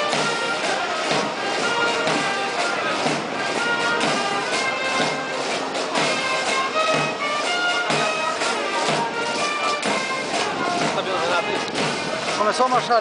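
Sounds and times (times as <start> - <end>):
military band playing a march: 0.0 - 13.0.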